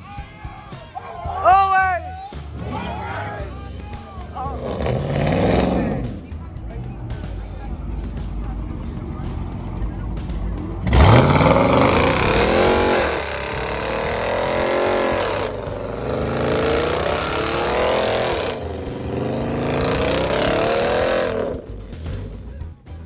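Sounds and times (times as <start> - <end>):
car engine revving: 1.5 - 23.0.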